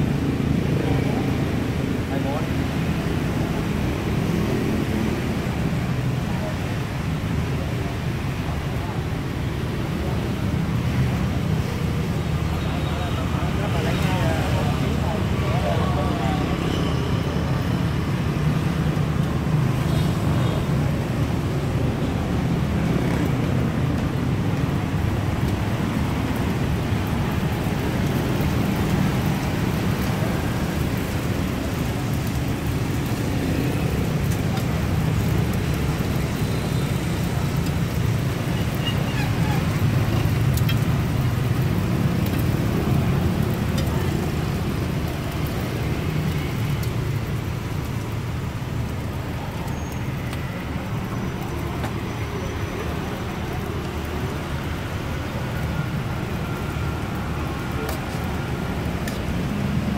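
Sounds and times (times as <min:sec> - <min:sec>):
street traffic with motorbikes: 0:00.0 - 0:59.9.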